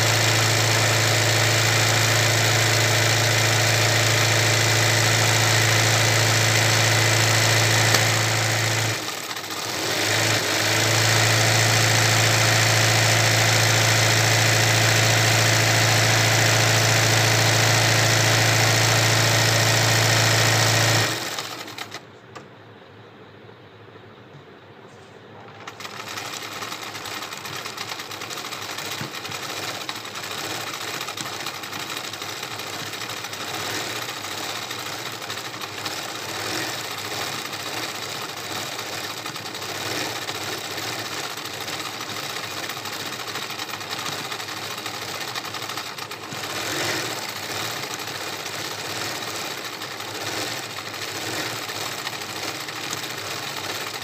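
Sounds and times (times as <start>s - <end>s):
electric sewing machine running: 0.0s - 22.0s, 25.7s - 54.0s.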